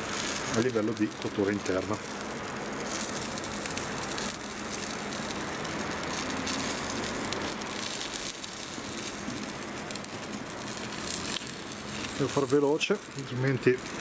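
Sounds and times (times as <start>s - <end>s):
fat flaring on hot coals: 0.0s - 14.0s
steak sizzling on a grill: 0.0s - 14.0s.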